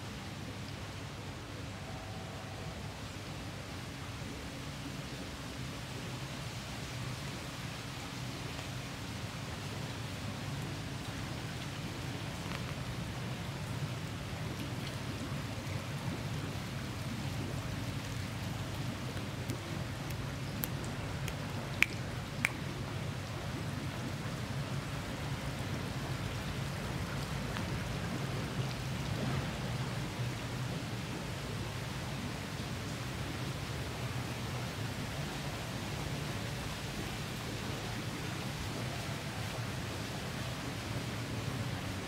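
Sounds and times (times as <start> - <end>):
fountain jets splashing into pond: 3.4 - 42.0.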